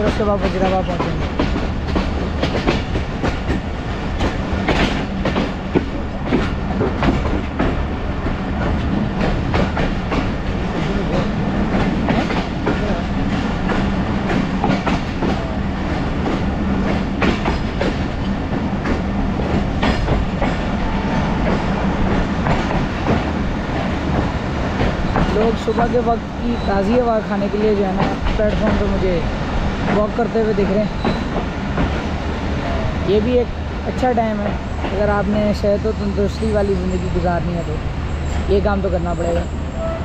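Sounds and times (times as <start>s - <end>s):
train running noise: 0.0s - 40.0s.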